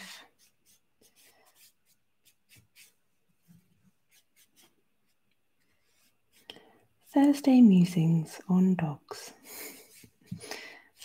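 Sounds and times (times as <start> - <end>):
paintbrush scratching on paper: 0.0 - 8.0, 9.6 - 11.0.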